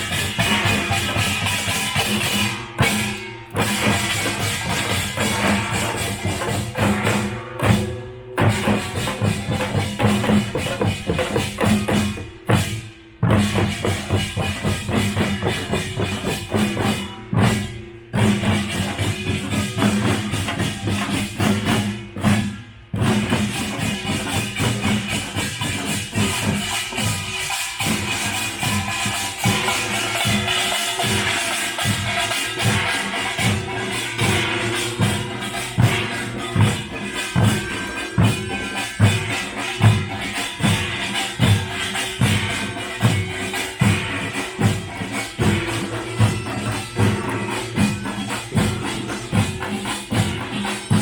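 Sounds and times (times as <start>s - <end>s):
drums beaten fast: 0.0s - 51.0s
folk percussion band playing: 0.0s - 51.0s
small gongs clattering: 0.0s - 51.0s.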